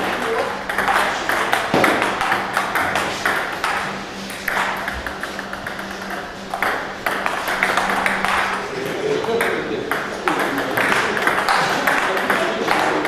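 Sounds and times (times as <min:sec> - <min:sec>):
steady low hum: 0:00.0 - 0:13.0
table tennis balls clicking: 0:00.0 - 0:13.0.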